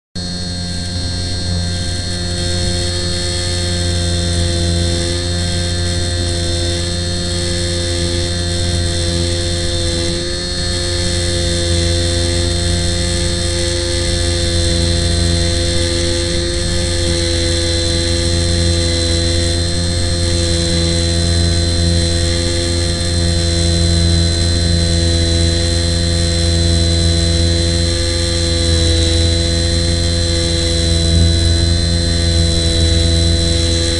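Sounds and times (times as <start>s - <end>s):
model airplane motor whining: 0.2s - 33.9s.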